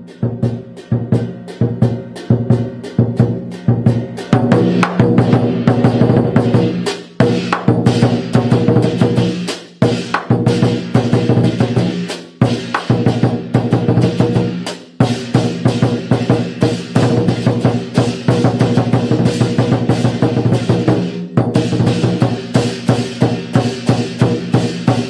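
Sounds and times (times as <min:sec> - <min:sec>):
rapid loud drum beats: 0:00.0 - 0:25.0.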